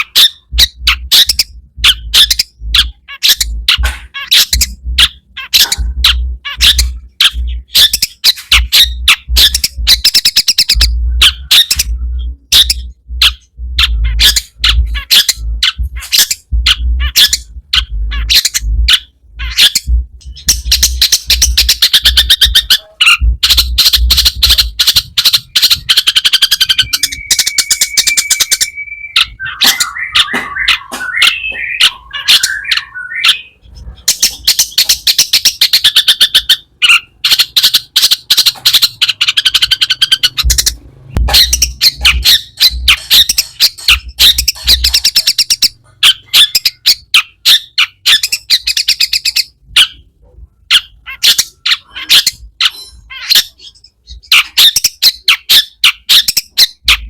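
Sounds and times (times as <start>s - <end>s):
shrike singing chattering song: 0.0s - 57.0s.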